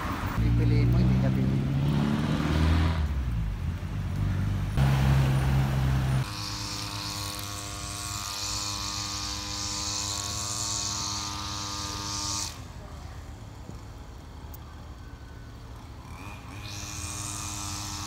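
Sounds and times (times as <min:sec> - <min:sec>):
vehicle engines passing: 0:00.0 - 0:18.0.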